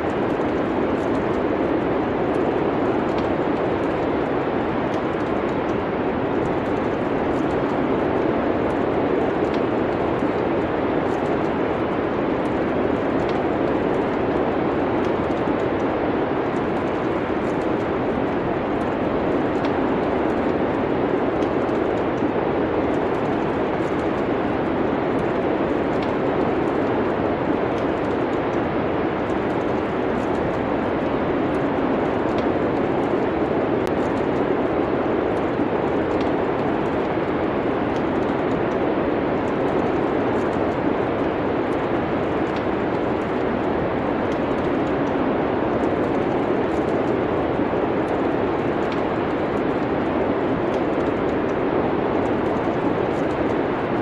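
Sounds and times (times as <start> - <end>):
wind of a snowstorm: 0.0 - 54.0
wood fire crackling: 0.0 - 54.0.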